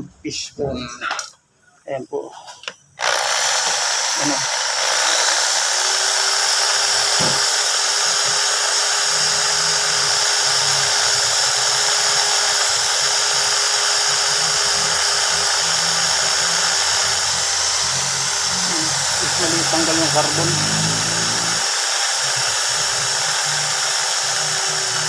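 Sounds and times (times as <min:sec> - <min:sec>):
rotary brush tool hissing: 0:03.0 - 0:25.0.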